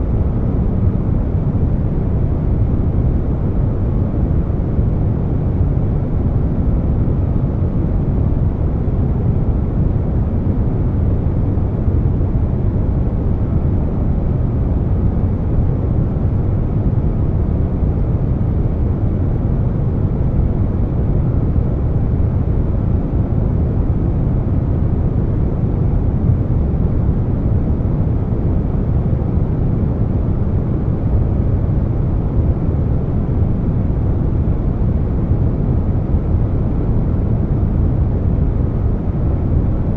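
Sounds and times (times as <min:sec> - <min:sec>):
air conditioner hum: 0:00.0 - 0:39.9.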